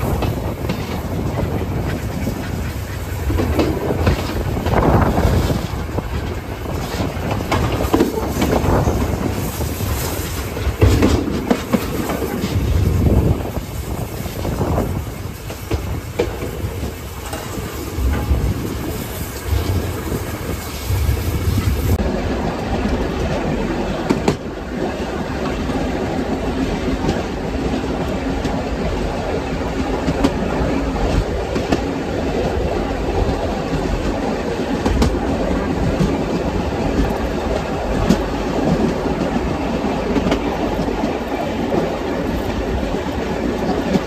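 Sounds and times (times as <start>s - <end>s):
clickety-clack of rail joints: 0.0s - 44.0s
train wheel and rail rumble: 0.0s - 44.0s.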